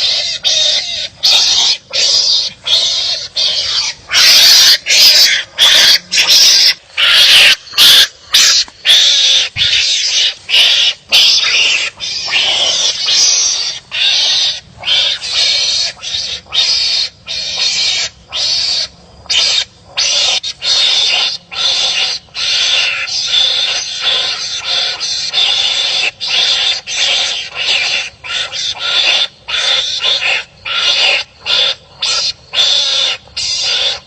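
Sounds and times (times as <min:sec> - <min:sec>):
animals raspy barking calls: 0:00.0 - 0:34.0.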